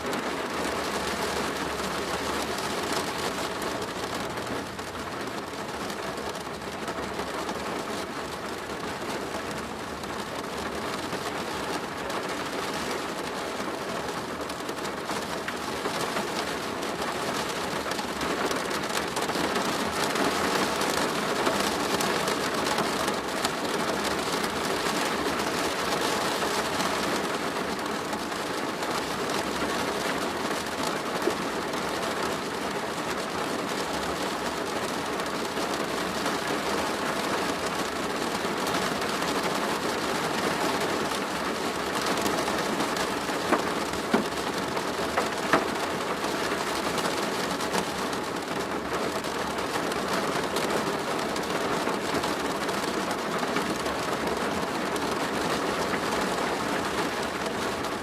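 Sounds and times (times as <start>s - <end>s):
rain on a plastic roof: 0.0s - 58.0s.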